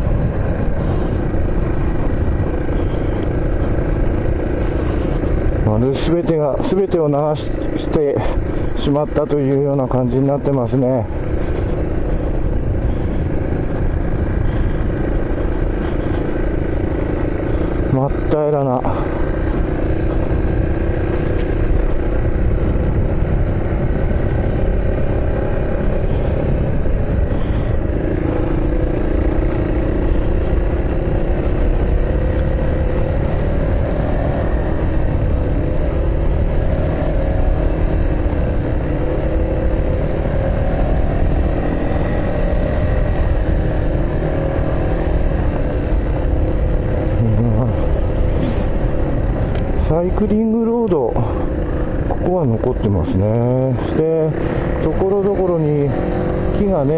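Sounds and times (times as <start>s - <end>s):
low road rumble: 0.0s - 56.9s
vehicle engine drone: 0.0s - 56.9s.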